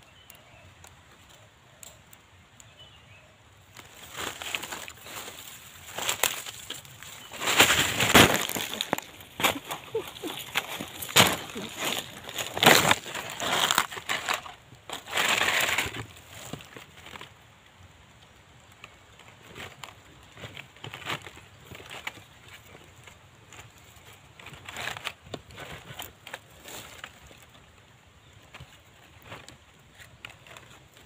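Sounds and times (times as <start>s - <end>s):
crunching and rustling: 3.7s - 17.5s, 18.1s - 31.0s.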